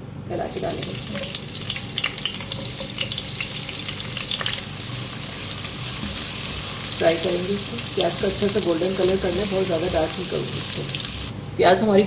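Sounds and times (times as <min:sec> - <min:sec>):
onions sizzling and crackling in oil: 0:00.5 - 0:11.7.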